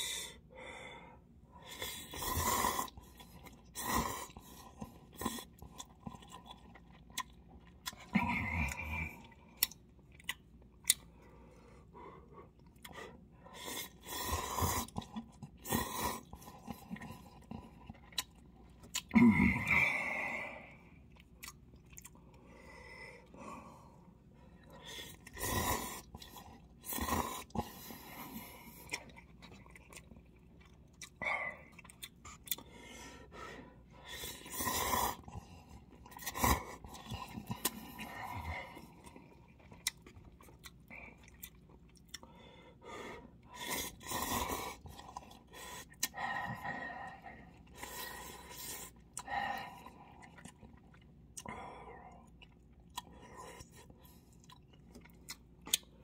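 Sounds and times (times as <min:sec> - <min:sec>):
chewing: 0:01.8 - 0:11.6, 0:12.5 - 0:19.1, 0:21.0 - 0:22.5, 0:24.5 - 0:33.4, 0:34.0 - 0:42.5, 0:43.4 - 0:56.0.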